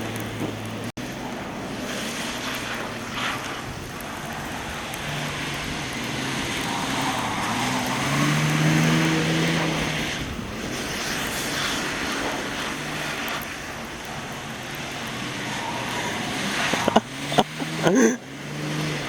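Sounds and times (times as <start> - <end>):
pickup engine revving: 0.0 - 19.0
tyre and wind rushing noise: 0.0 - 19.0.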